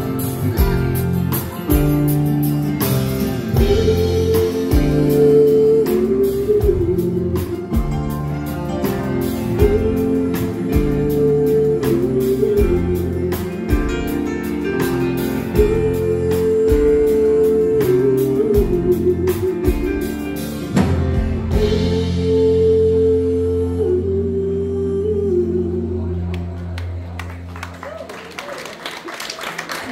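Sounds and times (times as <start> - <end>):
live band playing country ballad: 0.0 - 27.5.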